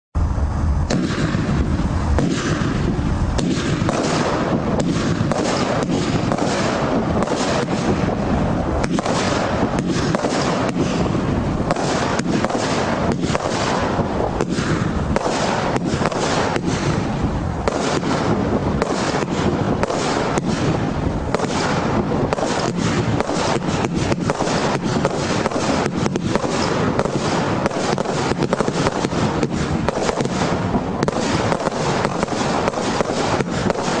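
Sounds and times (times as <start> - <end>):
fireworks bangs: 0.2 - 34.0
fireworks crackle: 0.2 - 34.0.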